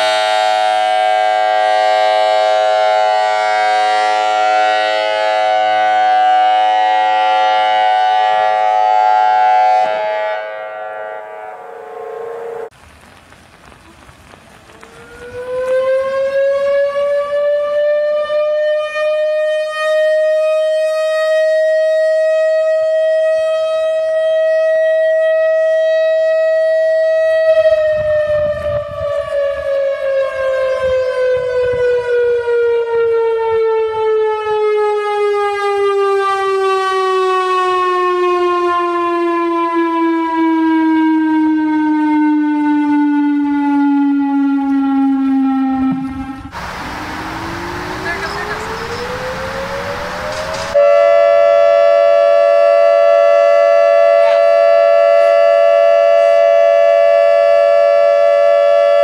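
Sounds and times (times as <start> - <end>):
warning siren wailing: 0.0 - 12.7, 14.7 - 59.0.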